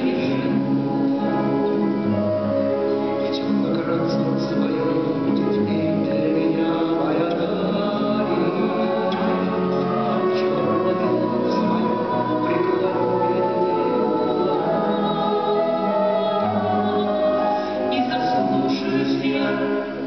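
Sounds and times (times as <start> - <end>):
acoustic guitars: 0.0 - 20.0
group singing together: 0.0 - 20.0.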